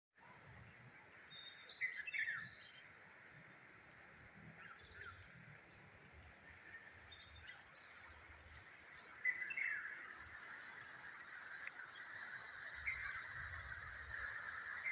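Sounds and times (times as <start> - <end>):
faint steady hiss: 0.2 - 14.9.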